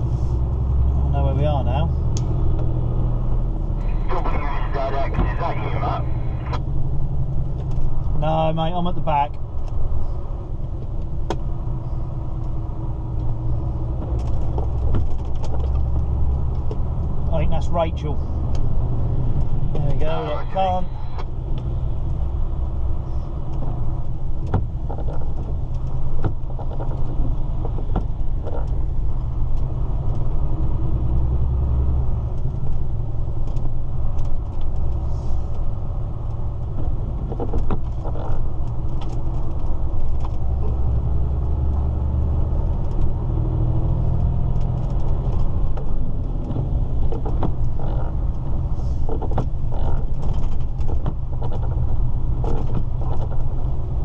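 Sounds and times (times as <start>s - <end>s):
lorry engine and road rumble: 0.0s - 54.0s.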